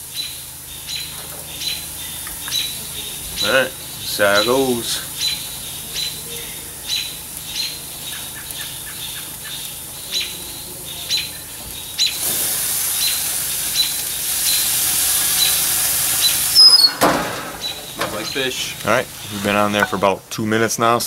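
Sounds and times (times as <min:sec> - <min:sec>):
bird chirping: 0:00.0 - 0:12.2, 0:13.0 - 0:17.0, 0:17.6 - 0:20.2
fish sizzling on a grill: 0:00.0 - 0:21.0.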